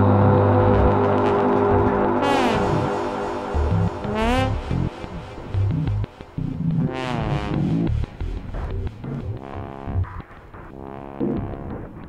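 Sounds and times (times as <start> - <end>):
electronic trombone music: 0.1 - 12.0.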